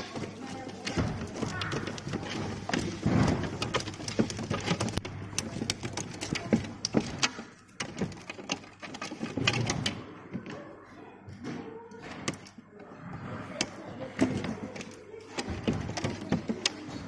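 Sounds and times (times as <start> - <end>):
hard parts clicking and knocking: 0.0 - 17.0.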